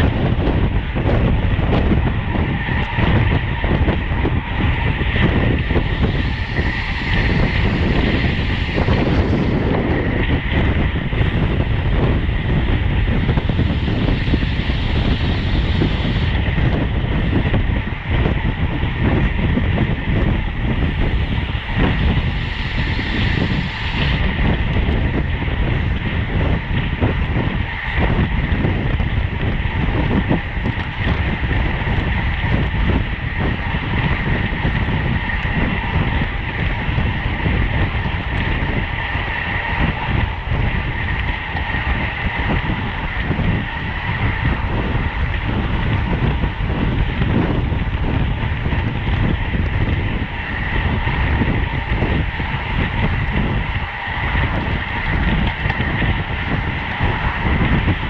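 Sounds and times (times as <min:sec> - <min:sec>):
constant whine: 0:00.0 - 0:58.0
wind buffeting microphone: 0:00.0 - 0:58.0.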